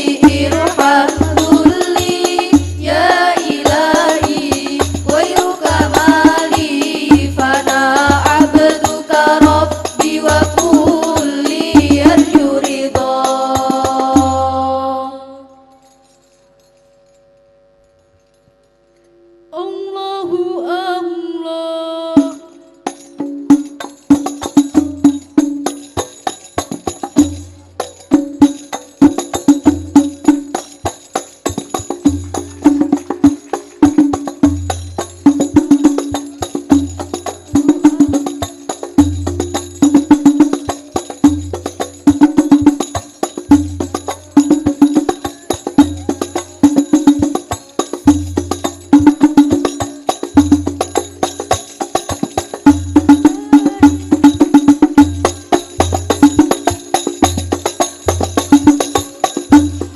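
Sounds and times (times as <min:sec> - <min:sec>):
hand drums interlocking rhythm: 0:00.0 - 0:15.0, 0:22.2 - 0:59.9.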